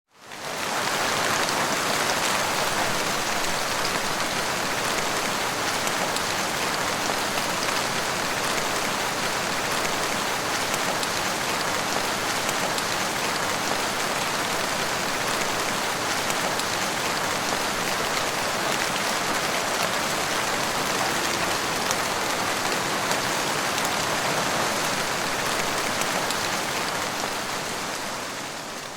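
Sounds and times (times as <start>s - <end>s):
heavy rain falling: 0.1s - 28.9s.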